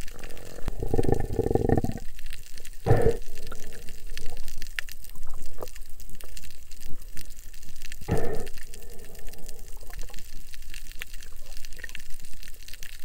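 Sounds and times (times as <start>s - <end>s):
underwater rush and bubbling: 0.0s - 13.0s
water gushing: 0.0s - 13.0s.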